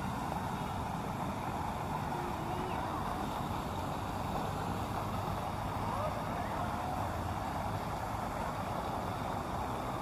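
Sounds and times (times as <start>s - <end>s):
faint distant voices: 0.0s - 10.0s
traffic hum: 0.0s - 10.0s.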